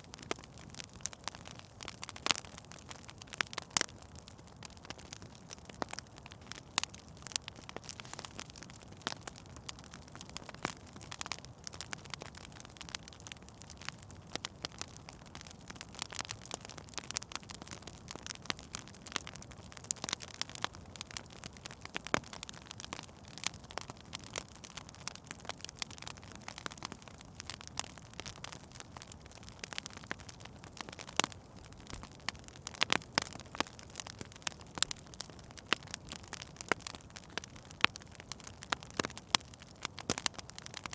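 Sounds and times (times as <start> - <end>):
soft steady hiss: 0.0 - 40.9
wood fire crackling and popping: 0.0 - 40.9.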